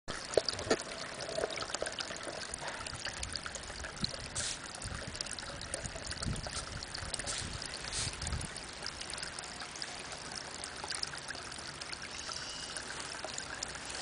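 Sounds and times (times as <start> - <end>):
water drips plinking: 0.1 - 14.0
water trickling into pond: 0.1 - 14.0.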